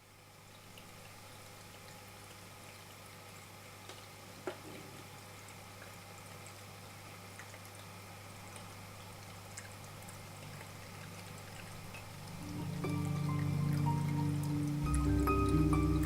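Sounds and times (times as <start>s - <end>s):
fountain water trickling: 0.0s - 4.4s, 5.0s - 16.0s
faint water drips: 0.0s - 16.0s.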